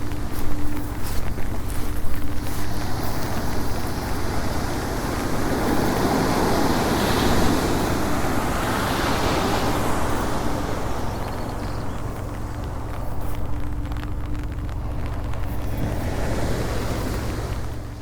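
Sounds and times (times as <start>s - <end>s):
ocean surf breaking: 0.0s - 18.0s
wind rumble on microphone: 0.0s - 18.0s.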